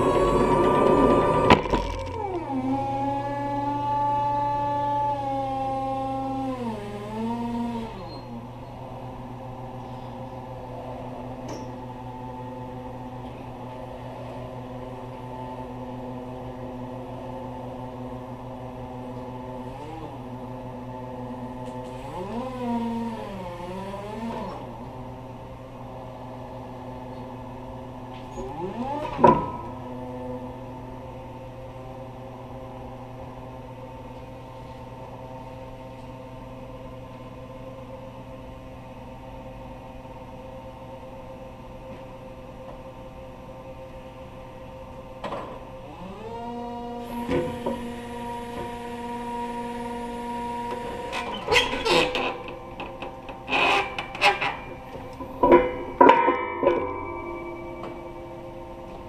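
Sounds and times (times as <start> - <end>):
lift truck motor humming: 0.0 - 38.3, 43.4 - 59.0.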